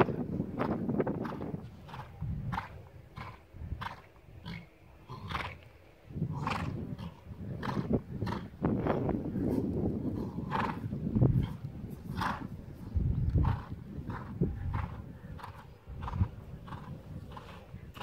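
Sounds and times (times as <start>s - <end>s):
horse hooves on sand: 0.0s - 18.0s
wind rumble on microphone: 0.0s - 18.0s.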